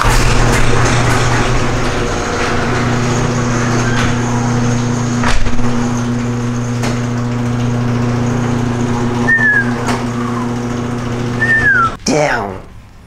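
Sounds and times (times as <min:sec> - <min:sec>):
garage door clunks: 0:00.0 - 0:11.8
garage door motor humming: 0:00.0 - 0:12.0.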